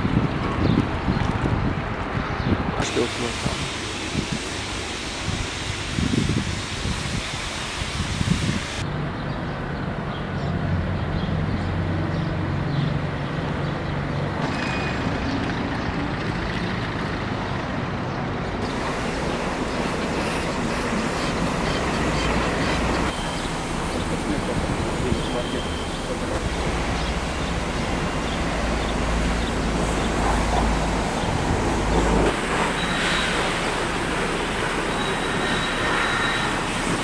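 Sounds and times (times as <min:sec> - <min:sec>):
street traffic noise: 0:00.0 - 0:37.0.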